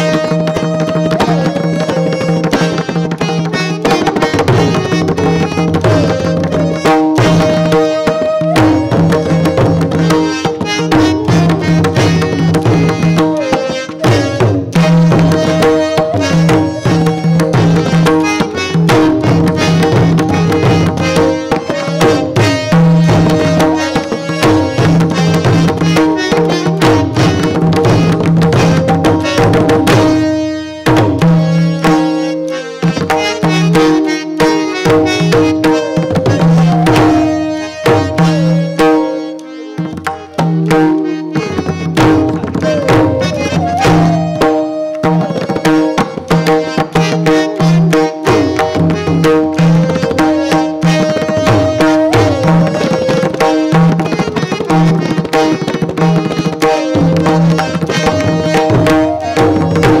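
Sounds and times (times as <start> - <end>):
harmonium melody: 0.0 - 60.0.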